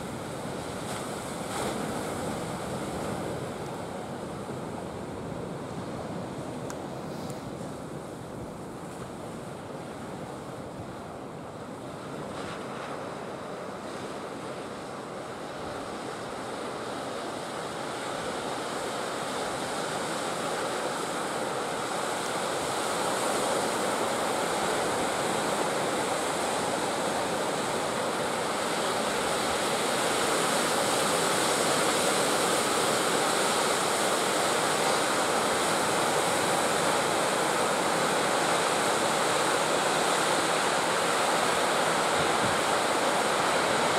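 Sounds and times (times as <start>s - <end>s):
sea surf breaking: 0.0s - 8.7s, 11.8s - 43.9s.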